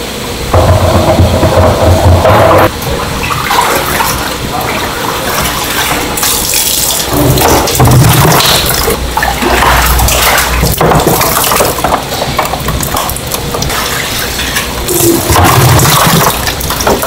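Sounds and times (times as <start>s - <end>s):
water splashing and sloshing: 1.0s - 17.0s.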